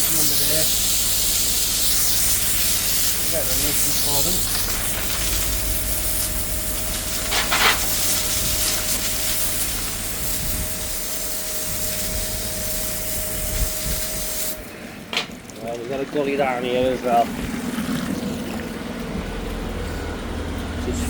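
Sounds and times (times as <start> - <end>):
drain jetter spraying water: 0.0 - 19.9.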